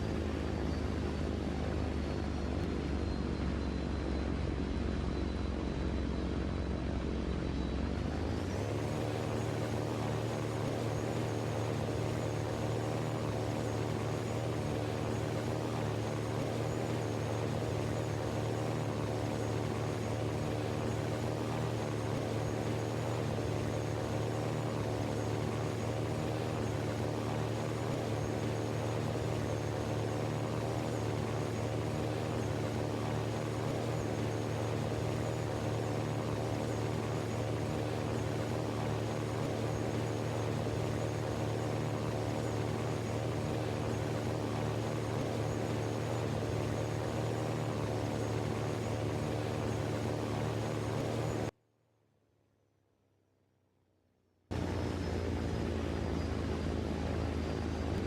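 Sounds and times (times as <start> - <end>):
engine running steadily: 0.0 - 51.6, 54.5 - 58.0.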